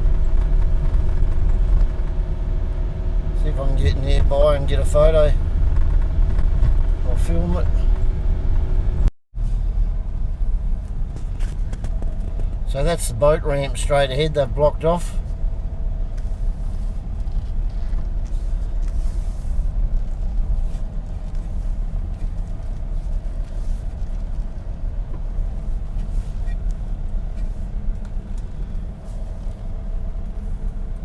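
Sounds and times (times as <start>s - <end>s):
car engine rumble: 0.0s - 31.0s
road noise: 0.0s - 31.0s.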